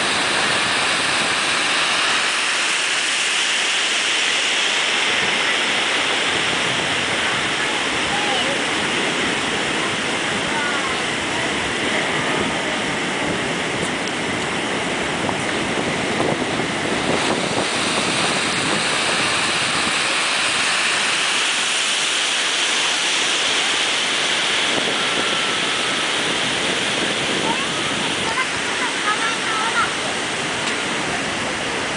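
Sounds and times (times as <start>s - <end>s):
ocean surf breaking: 0.0s - 31.9s
wind on microphone: 0.0s - 31.9s.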